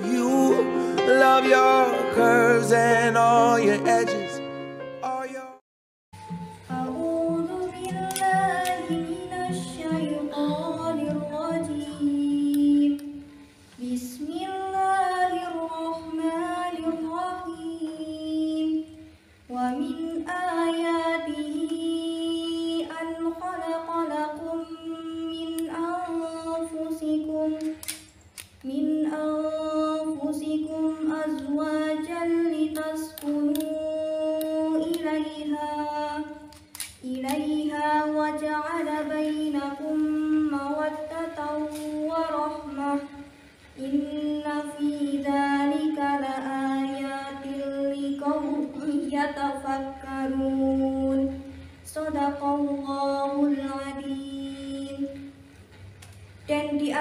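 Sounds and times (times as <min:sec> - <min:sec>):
woman reciting in sung style: 0:00.0 - 0:03.9, 0:06.7 - 0:55.5, 0:56.4 - 0:57.0.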